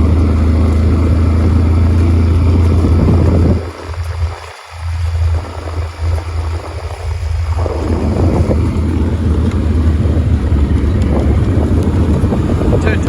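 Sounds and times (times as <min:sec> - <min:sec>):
vehicle engine humming: 0:00.0 - 0:13.0
wind buffeting microphone: 0:00.0 - 0:13.0.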